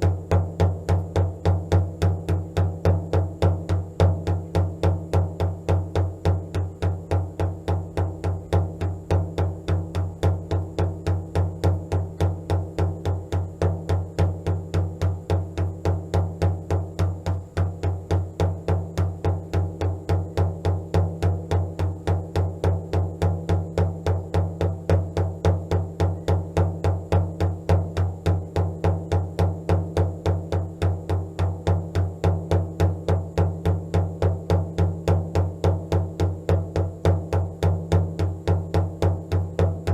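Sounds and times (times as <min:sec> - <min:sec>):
low drum beating steadily: 0:00.0 - 0:39.9.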